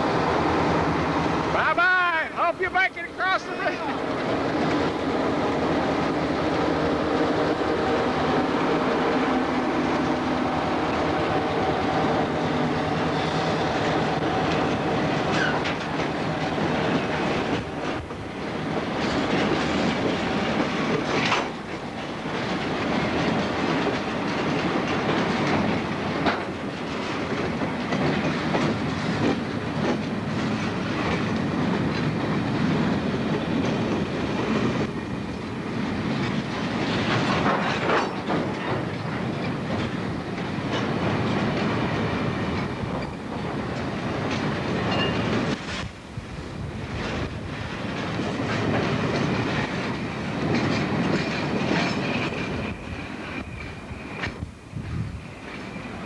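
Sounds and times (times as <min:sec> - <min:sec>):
locomotive engine hum: 0:00.0 - 0:56.0
train cars clacking over rails: 0:00.0 - 0:56.0.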